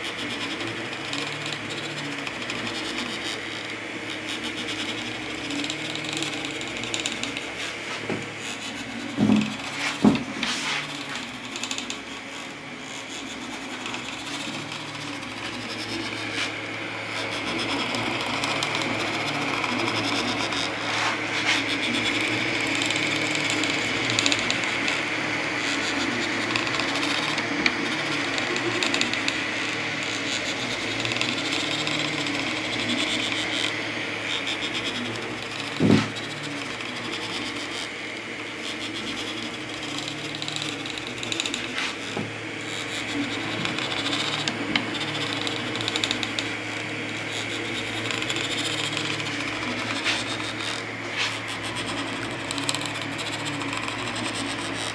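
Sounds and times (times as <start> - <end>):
cooling fans whirring: 0.0 - 54.9
stepper motors whining: 0.0 - 54.9.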